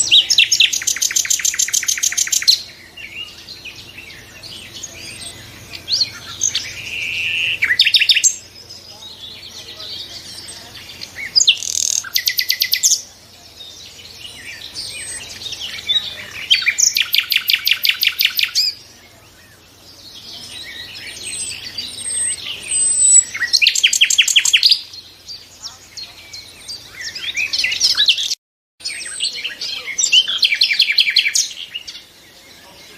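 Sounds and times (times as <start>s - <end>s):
nightingale singing: 0.0s - 32.9s.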